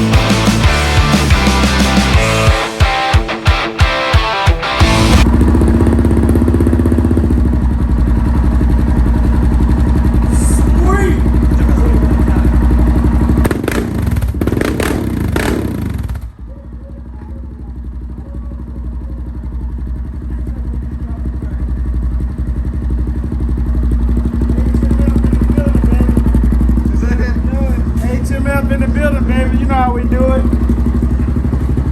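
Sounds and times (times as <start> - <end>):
atv engine revving and idling: 0.0 - 3.1, 4.8 - 31.9.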